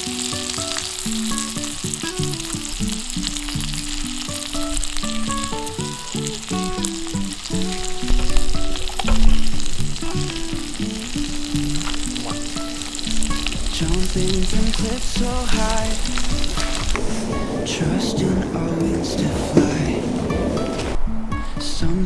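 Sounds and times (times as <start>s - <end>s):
food sizzling over a campfire: 0.0s - 21.0s
instrumental background music: 0.0s - 22.0s.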